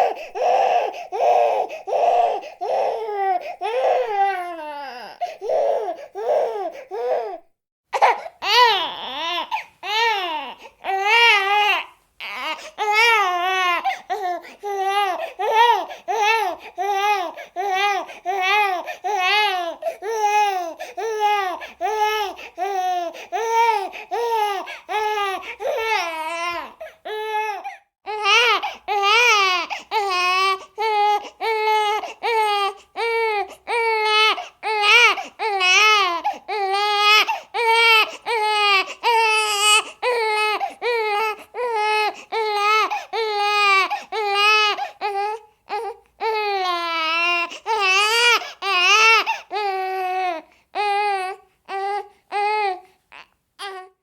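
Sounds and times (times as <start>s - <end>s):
baby crying: 0.0s - 54.0s.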